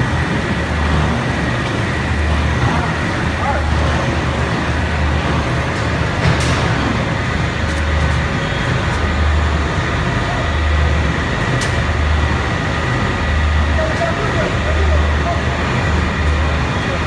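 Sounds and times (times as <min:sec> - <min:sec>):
industrial machinery rumble: 0:00.0 - 0:17.0.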